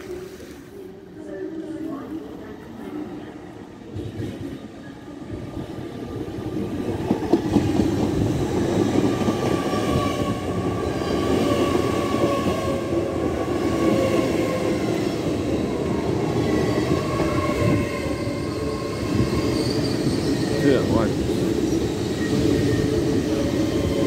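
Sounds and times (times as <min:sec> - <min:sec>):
train carriages rumbling on track: 0:03.9 - 0:24.0.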